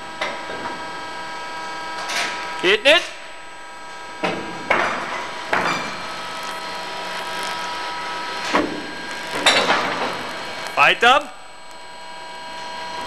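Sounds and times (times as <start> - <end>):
machinery hum with steady tones: 0.0 - 13.0.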